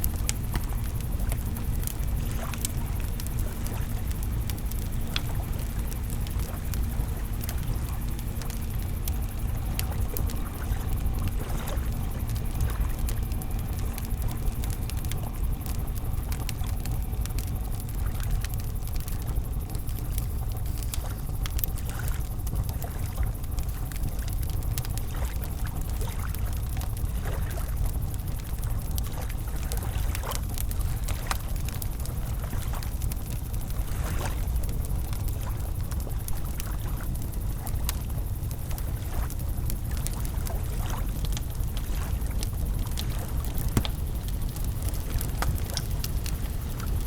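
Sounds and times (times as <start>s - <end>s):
campfire crackling and popping: 0.0s - 47.0s
steady low rumble: 0.0s - 47.0s.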